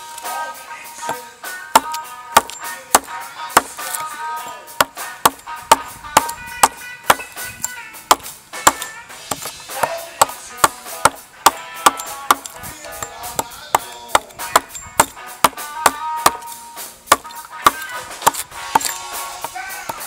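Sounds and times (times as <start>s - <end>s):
guitar music: 0.0s - 20.0s
axe chopping wood: 1.1s - 20.0s.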